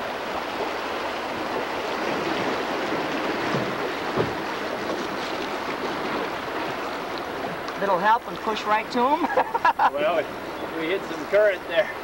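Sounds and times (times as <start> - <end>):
river water splashing against boat: 0.0 - 12.0.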